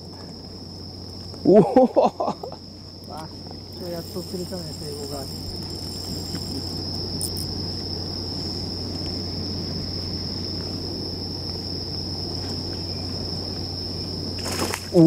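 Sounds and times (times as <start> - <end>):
insects trilling: 0.0 - 15.0
low steady hum: 0.0 - 15.0.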